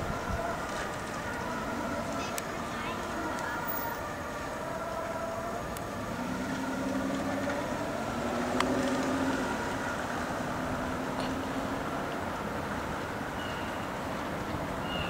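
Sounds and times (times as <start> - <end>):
engine humming: 0.0 - 15.0
town background noise: 0.0 - 15.0.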